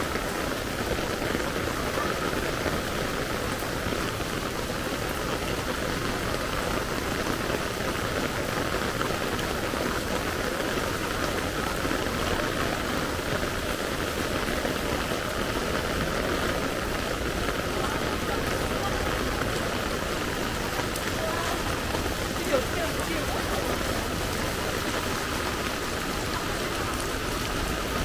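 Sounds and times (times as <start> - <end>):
heavy rain on pavement: 0.0 - 28.0.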